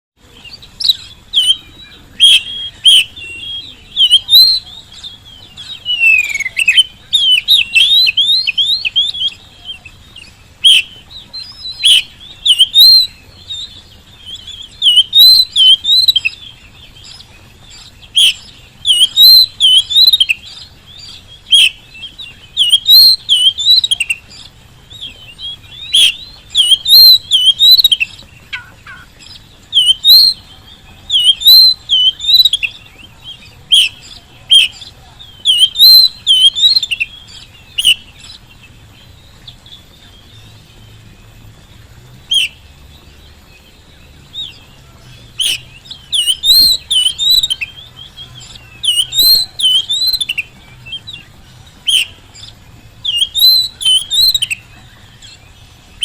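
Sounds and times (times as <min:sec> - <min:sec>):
magpie-robin singing: 0:00.2 - 0:56.0.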